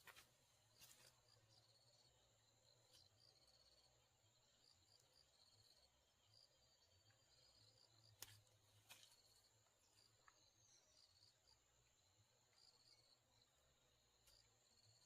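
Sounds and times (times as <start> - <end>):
faint insects chirring: 0.0 - 15.0.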